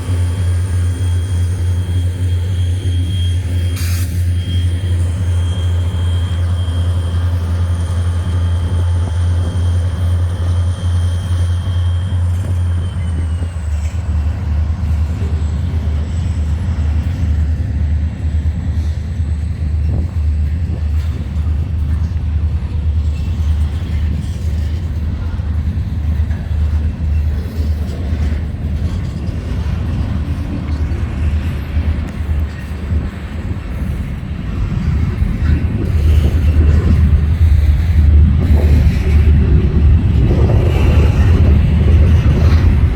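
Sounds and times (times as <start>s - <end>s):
locomotive engine drone: 0.0s - 42.9s.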